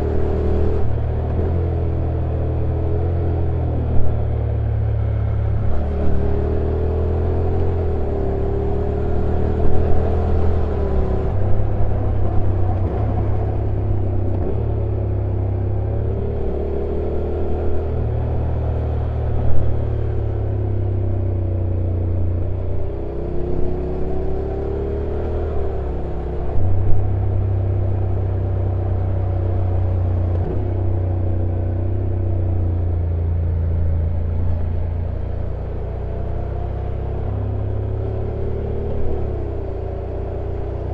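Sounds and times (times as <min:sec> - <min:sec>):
motorcycle engine at low revs: 0:00.0 - 0:40.9.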